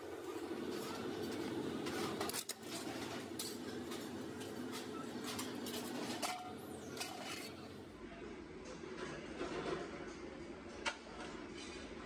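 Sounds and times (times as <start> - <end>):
workshop machinery hum: 0.0 - 9.8.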